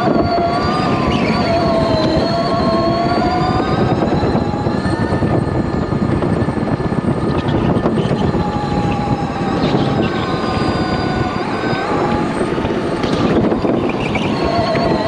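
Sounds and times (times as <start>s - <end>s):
electric motor whine: 0.0s - 15.0s
loud low rumble: 0.0s - 15.0s.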